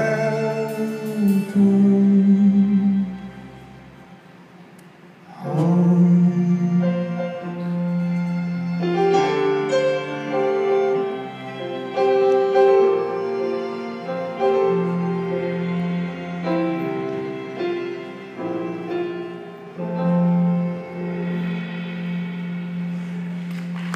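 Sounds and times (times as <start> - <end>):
bowed strings: 0.0 - 23.9
piano chords: 0.0 - 23.9.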